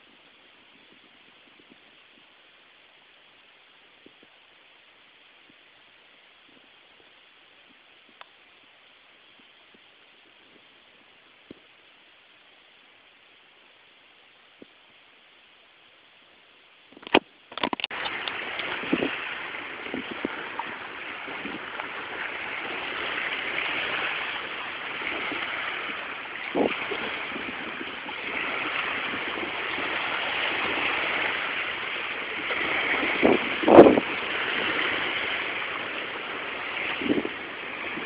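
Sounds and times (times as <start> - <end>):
rushing wind and floodwater: 0.0 - 38.0.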